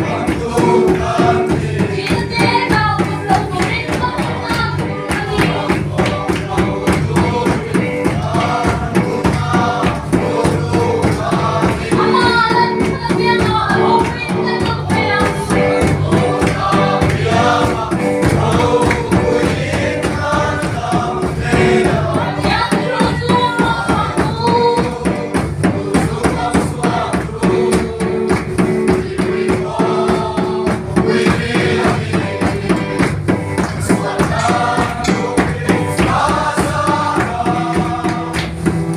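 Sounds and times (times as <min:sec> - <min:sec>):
group singing: 0:00.0 - 0:38.9
instrumental music with steady beat: 0:00.0 - 0:38.9.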